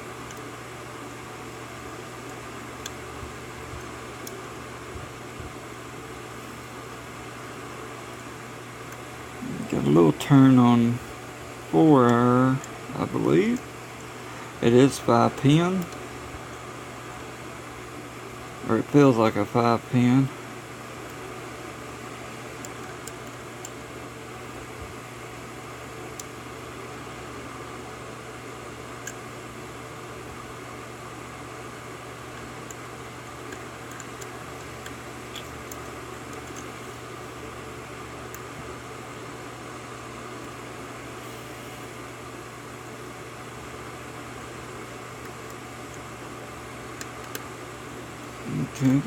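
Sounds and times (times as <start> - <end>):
background hum and hiss: 0.0 - 49.0.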